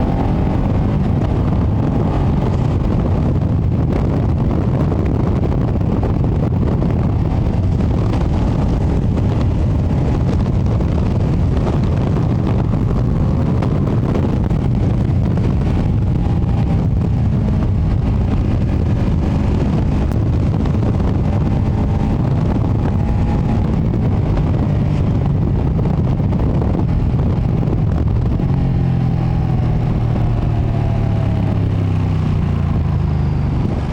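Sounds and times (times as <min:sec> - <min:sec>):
motorcycle engine: 0:00.0 - 0:33.9
wind buffeting microphone: 0:00.0 - 0:33.9.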